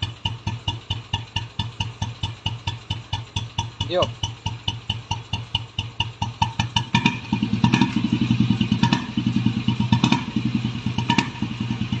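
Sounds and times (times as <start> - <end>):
single-cylinder engine thumping: 0.0 - 12.0.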